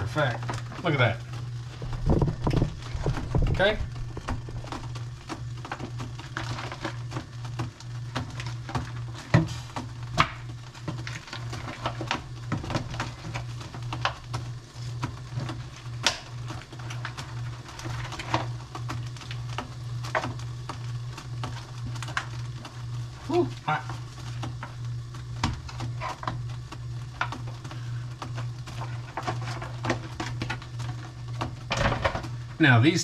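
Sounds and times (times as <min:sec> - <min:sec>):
low hum: 0:00.0 - 0:33.0
plastic wrap crackles and clicks: 0:00.3 - 0:32.4.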